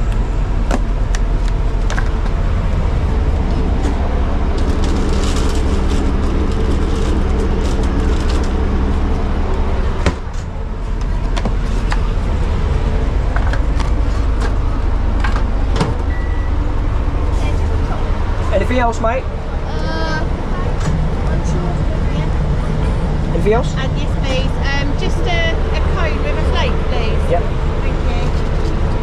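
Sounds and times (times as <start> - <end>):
van engine humming: 0.0 - 29.0.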